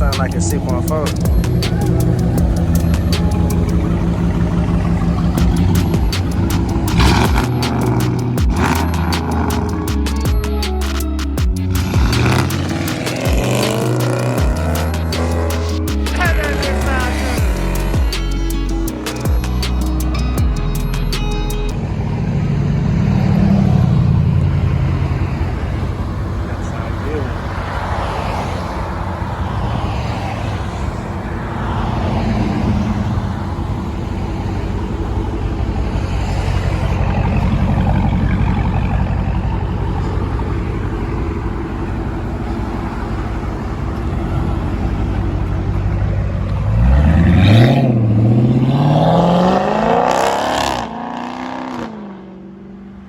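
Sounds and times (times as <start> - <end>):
car engine idling: 0.0 - 51.0
car engine revving: 0.0 - 53.0.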